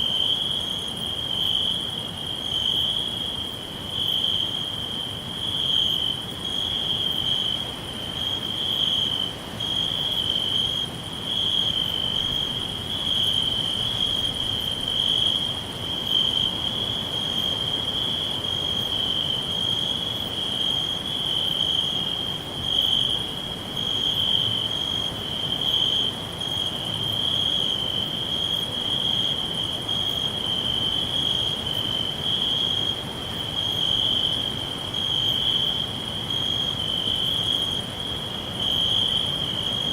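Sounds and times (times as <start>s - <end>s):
crickets chirring: 0.0s - 39.9s
faint pulsing insect call: 0.0s - 39.9s.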